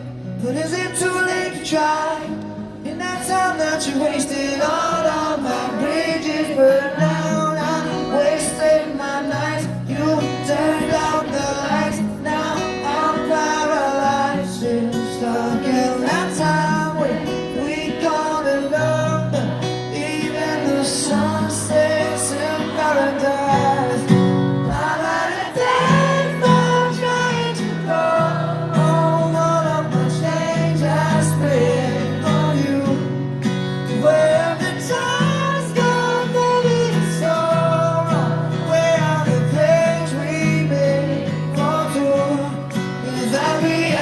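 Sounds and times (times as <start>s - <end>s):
live pop-rock band with singing: 0.0s - 44.0s.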